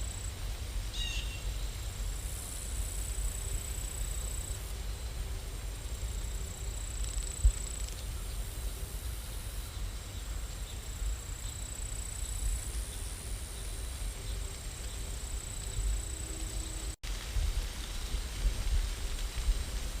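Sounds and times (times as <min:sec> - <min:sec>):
faint high whine: 0:00.0 - 0:17.0
steady rain: 0:00.0 - 0:20.0.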